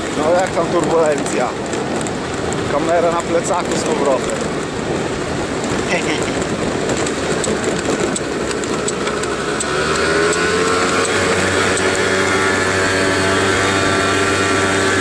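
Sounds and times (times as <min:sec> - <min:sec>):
motor scooter engine running: 0:00.0 - 0:15.0
wind and road noise: 0:00.0 - 0:15.0.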